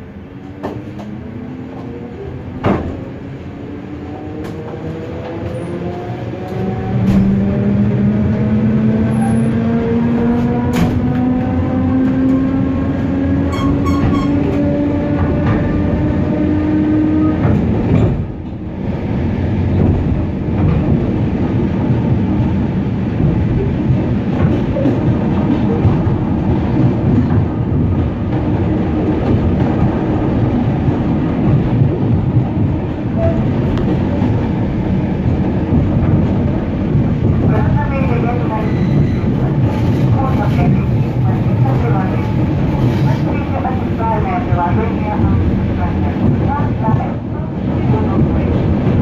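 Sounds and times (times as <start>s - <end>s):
train rolling rumble: 0.0s - 49.0s.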